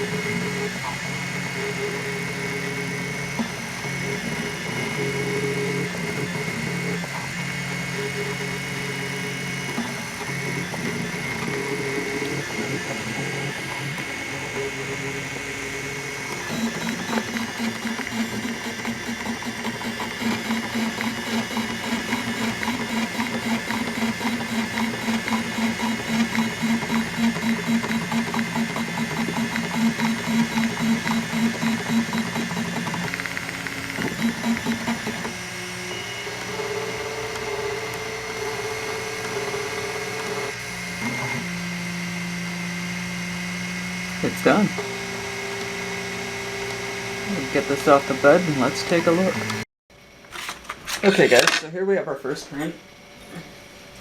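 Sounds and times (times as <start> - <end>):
printer stepper motors whining: 0.0 - 49.7.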